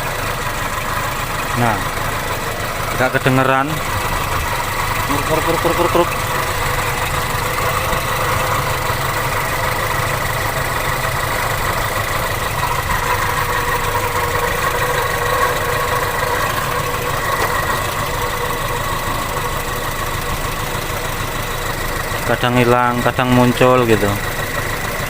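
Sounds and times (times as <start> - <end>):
car engine idling: 0.0 - 25.0
engine whine: 0.0 - 25.0.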